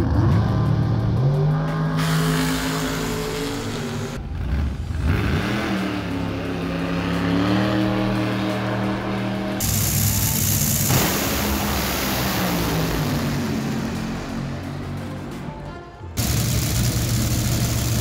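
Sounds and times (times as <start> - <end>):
drag race car engines revving: 0.0 - 18.0.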